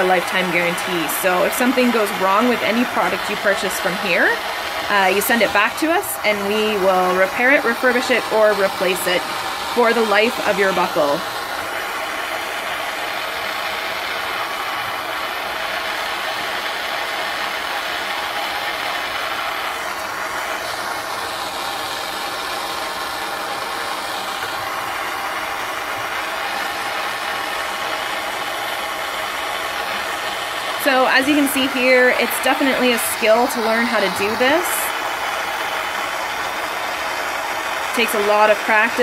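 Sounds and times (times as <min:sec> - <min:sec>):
gas torch flame hissing: 0:00.0 - 0:39.0.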